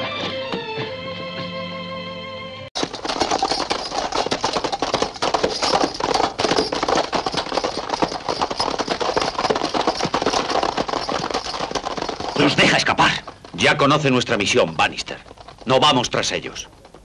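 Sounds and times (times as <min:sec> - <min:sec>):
horses galloping: 0:02.8 - 0:17.0.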